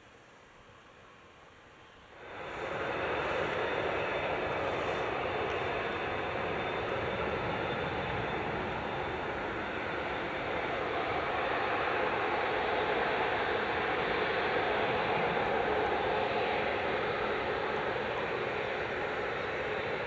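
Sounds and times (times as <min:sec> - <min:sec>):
jet engines roaring: 0:02.2 - 0:20.0.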